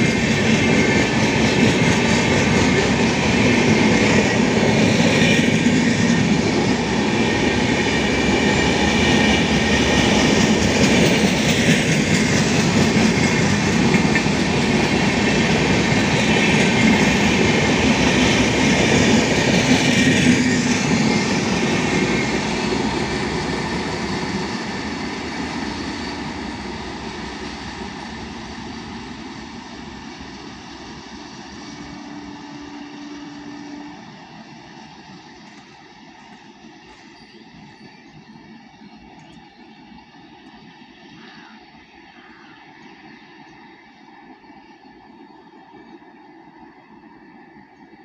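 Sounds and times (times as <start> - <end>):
train wheels rumbling on track: 0.0 - 48.0.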